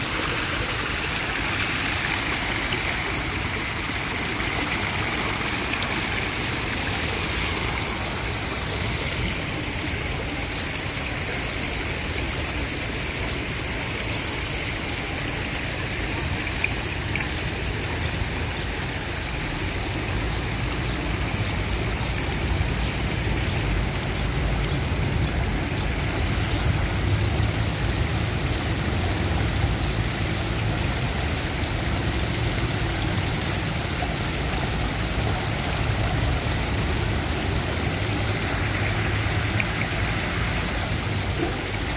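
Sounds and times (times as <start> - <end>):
fountain water splashing: 0.0 - 41.9
low rumble of road traffic: 0.0 - 41.9.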